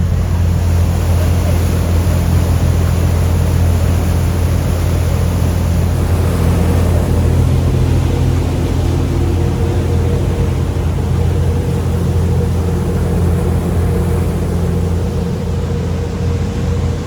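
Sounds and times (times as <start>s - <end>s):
boat engine humming: 0.0s - 17.0s
steady rushing noise: 0.0s - 17.0s.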